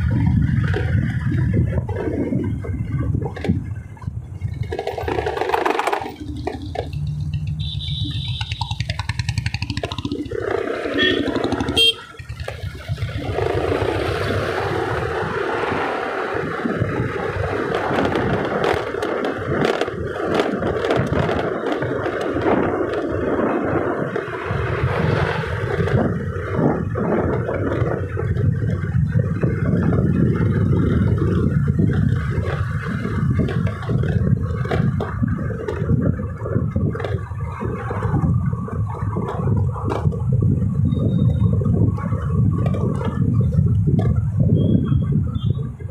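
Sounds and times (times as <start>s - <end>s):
wind buffeting the microphone: 0.0s - 45.9s
scooter engine running: 3.3s - 45.9s.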